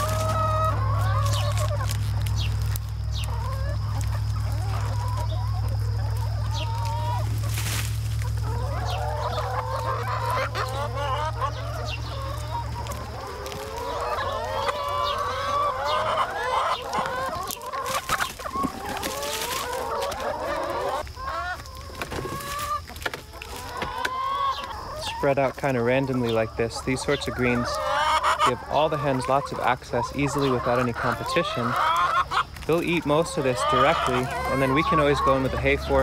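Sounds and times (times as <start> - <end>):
hens clucking and calling: 0.0 - 36.0.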